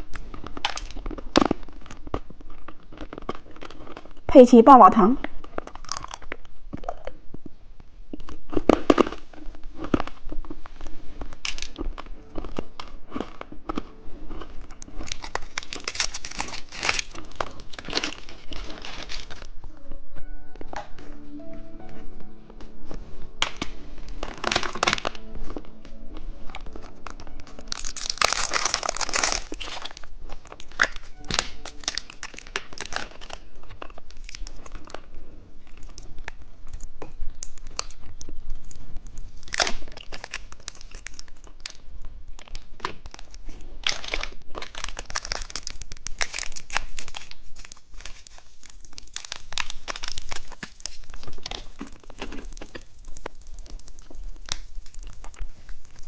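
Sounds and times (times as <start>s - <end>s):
plastic candy wrappers crinkling: 0.0s - 4.3s, 5.2s - 19.8s, 23.3s - 56.0s.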